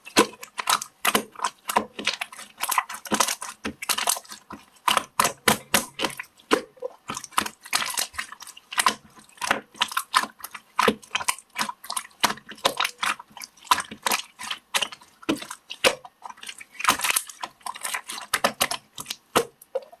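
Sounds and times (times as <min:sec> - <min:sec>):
slime squelching and popping: 0:00.0 - 0:20.0.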